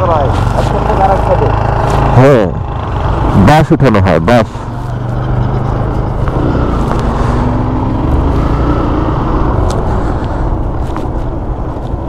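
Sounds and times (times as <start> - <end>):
motorcycle engine running: 0.0 - 4.0, 4.6 - 12.0
road and wind noise: 0.0 - 12.0.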